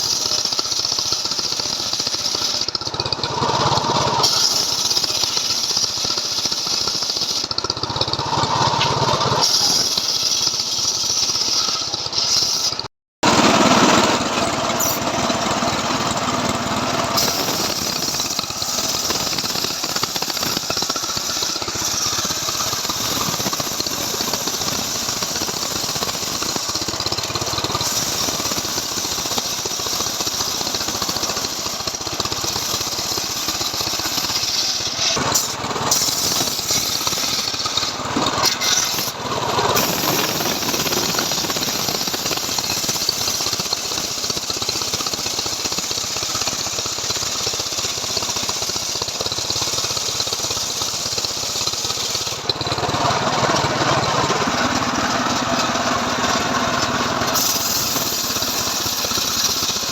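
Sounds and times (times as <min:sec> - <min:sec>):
chainsaw engine running: 0:00.0 - 0:59.9
saw cutting through wood: 0:00.0 - 0:59.9.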